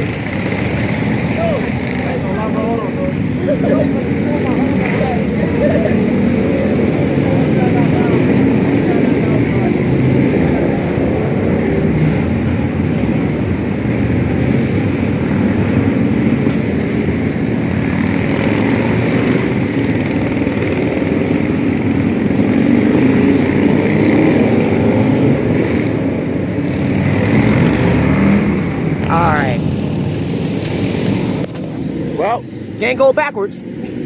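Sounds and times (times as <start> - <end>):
motorcycle engines rumbling: 0.0 - 34.0.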